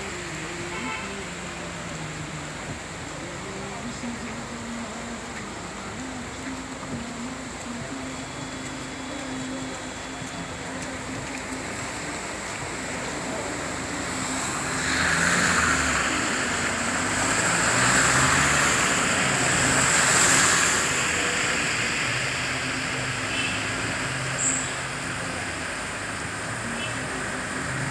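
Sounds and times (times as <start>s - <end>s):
tyres swishing through floodwater: 0.0s - 27.9s
vehicles splashing through water: 0.0s - 27.9s.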